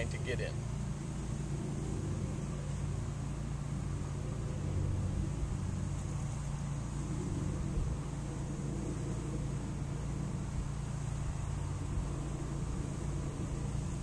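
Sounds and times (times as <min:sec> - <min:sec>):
faint hiss: 0:00.0 - 0:14.0
steady low rumble: 0:00.0 - 0:14.0.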